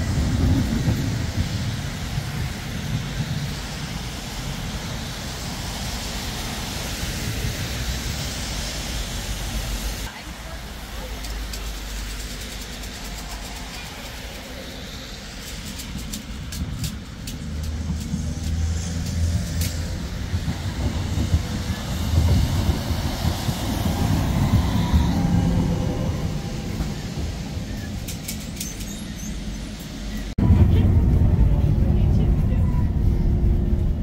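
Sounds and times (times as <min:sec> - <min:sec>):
tram rumbling on rails: 0:00.0 - 0:34.0.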